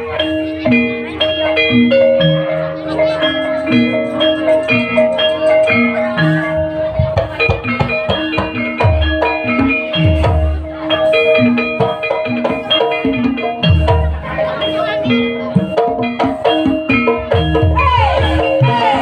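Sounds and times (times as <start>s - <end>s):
tuned metal percussion: 0.0s - 19.0s.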